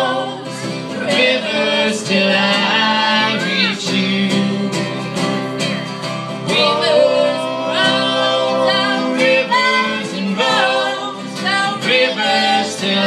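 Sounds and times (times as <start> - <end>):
voices singing long notes: 0.0 - 5.7, 6.4 - 13.0
guitar: 0.0 - 13.0
live band playing folk song: 0.0 - 13.0.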